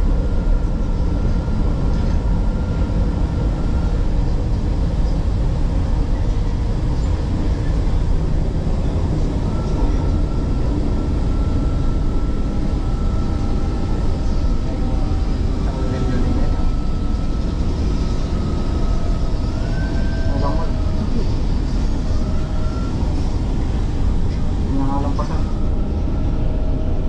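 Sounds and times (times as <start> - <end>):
train car rumbling on track: 0.0 - 27.0.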